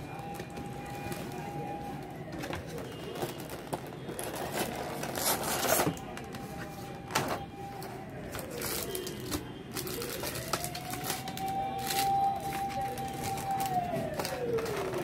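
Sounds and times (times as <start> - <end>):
plastic and cardboard packaging handled: 0.0 - 15.0.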